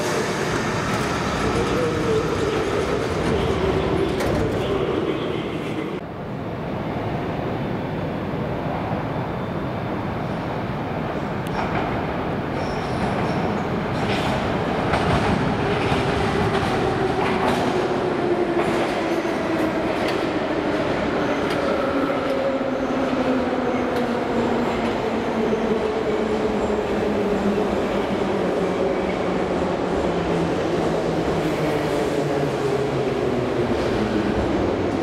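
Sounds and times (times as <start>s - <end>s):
train wheels rumbling on rails: 0.0s - 6.0s, 11.4s - 35.0s.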